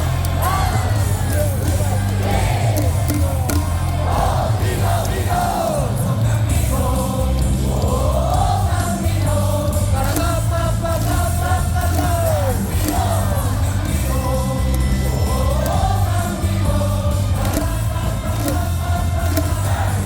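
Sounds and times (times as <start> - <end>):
crowd singing a cheer song: 0.0 - 20.0
loudspeaker music with bass beat: 0.0 - 20.0.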